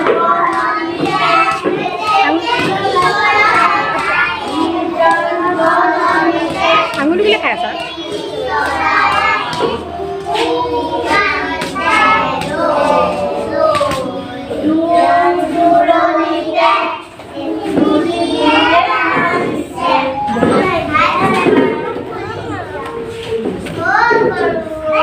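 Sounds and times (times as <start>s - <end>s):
children singing together: 0.0s - 25.0s.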